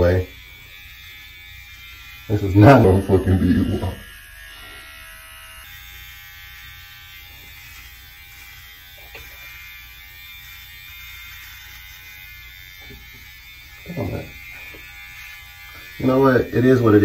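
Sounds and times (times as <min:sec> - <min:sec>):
electric razor buzzing: 0:00.0 - 0:17.0.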